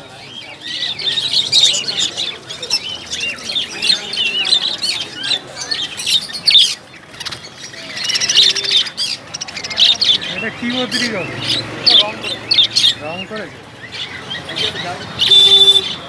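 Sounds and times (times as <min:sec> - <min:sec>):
caged birds chirping and squawking: 0:00.0 - 0:16.0.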